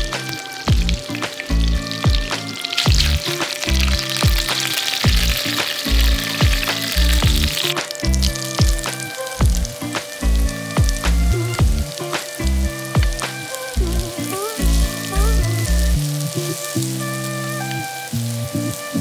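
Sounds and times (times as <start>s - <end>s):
music with beat and deep bass: 0.0s - 19.0s
oil sizzling in a frying pan: 0.0s - 19.0s.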